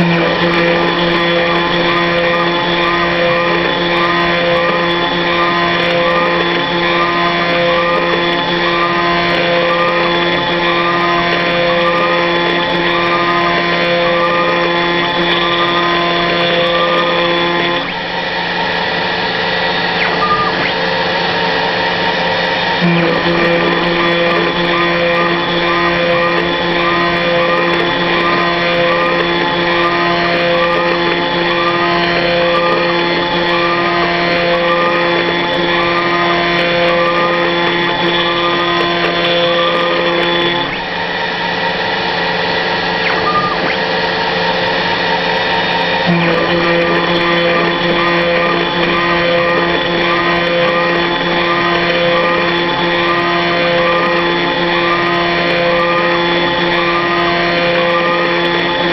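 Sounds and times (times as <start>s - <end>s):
milling machine spindle whining: 0.0s - 58.9s.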